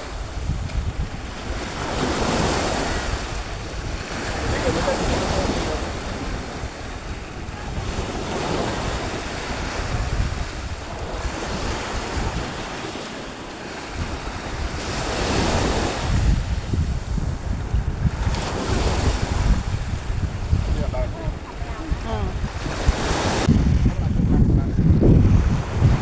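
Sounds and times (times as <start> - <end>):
waves washing against rocks: 0.0 - 26.0
wind buffeting microphone: 0.0 - 26.0.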